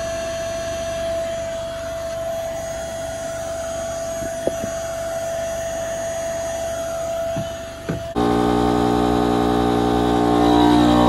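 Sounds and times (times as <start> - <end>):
electric pump humming: 0.0 - 11.0.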